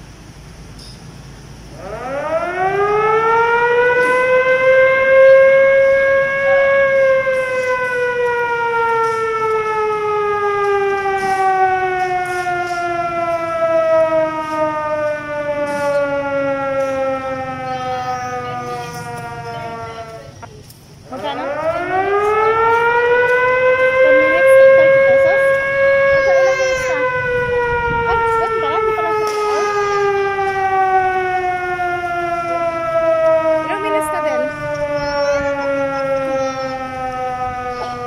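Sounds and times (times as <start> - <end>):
siren wailing: 1.7 - 38.0.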